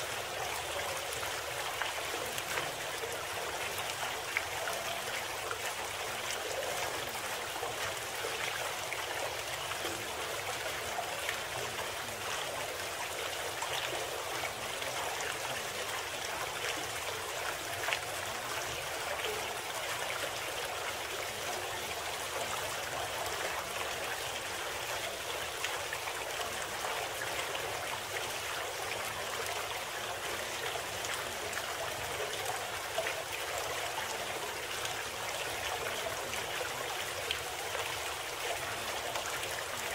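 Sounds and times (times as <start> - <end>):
faint drips and splashes: 0.0 - 39.9
running water: 0.0 - 39.9.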